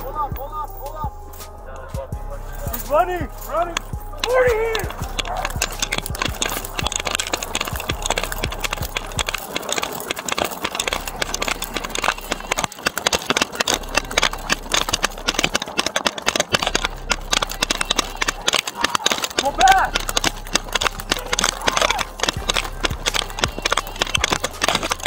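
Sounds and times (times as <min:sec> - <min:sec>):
running footsteps on concrete: 0:00.0 - 0:25.0
clicks and knocks of gear: 0:02.6 - 0:25.0.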